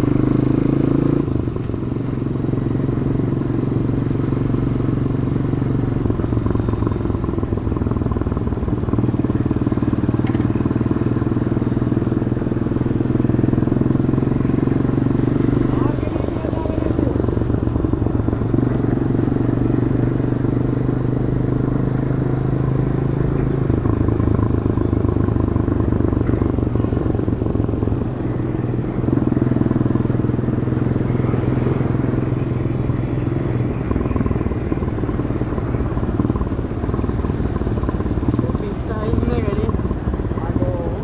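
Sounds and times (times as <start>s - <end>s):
motorcycle engine riding: 0.0s - 41.0s.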